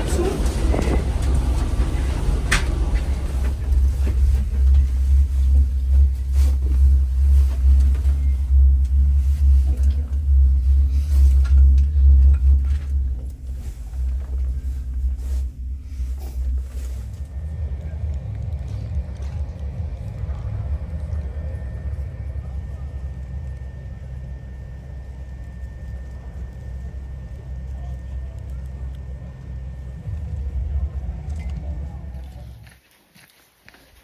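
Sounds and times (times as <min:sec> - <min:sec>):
gondola cabin rumble: 0:00.0 - 0:32.8.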